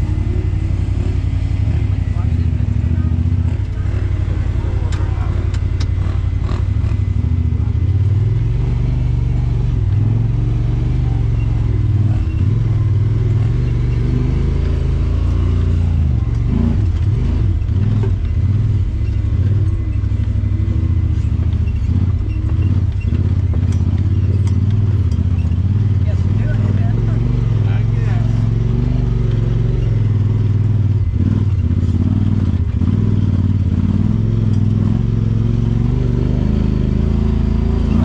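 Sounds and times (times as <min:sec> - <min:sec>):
engine running under load: 0:00.0 - 0:38.0.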